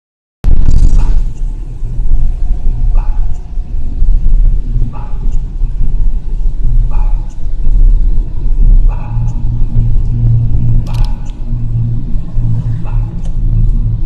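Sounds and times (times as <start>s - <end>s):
deep bass drone: 0.4s - 14.0s.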